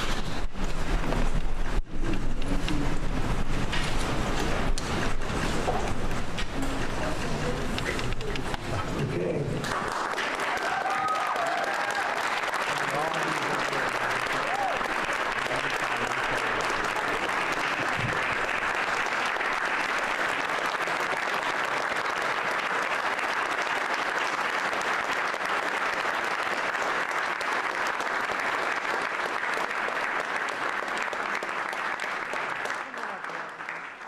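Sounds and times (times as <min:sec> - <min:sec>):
audience applauding: 0:00.0 - 0:34.0.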